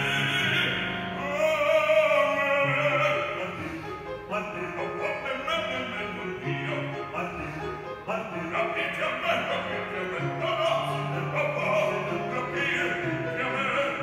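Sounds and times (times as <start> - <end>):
opera singer: 0.0 - 14.0
orchestra: 0.0 - 14.0.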